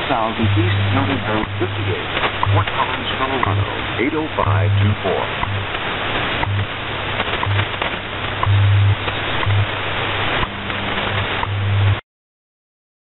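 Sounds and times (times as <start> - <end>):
faint ticking: 0.0 - 12.0
low pulsing hum: 0.0 - 12.0
static hiss: 0.0 - 12.0.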